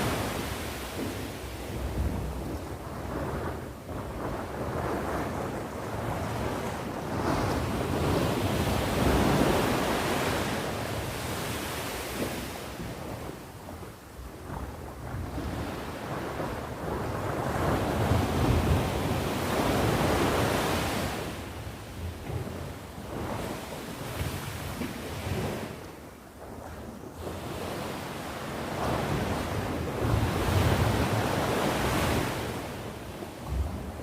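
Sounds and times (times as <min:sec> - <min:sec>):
sea waves breaking on shore: 0:00.0 - 0:34.0
wind buffeting microphone: 0:00.0 - 0:34.0.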